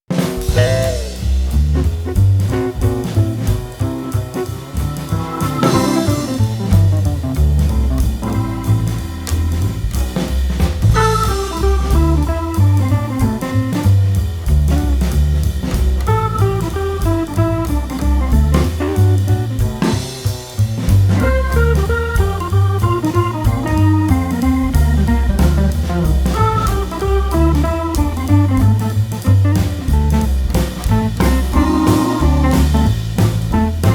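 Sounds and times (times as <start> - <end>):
instrumental band playing: 0.1 - 33.9.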